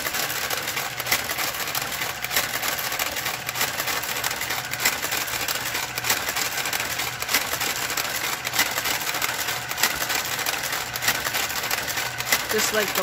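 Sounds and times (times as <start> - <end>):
knitting machine carriage clatter: 0.0 - 13.0
sharp mechanical click: 0.0 - 13.0.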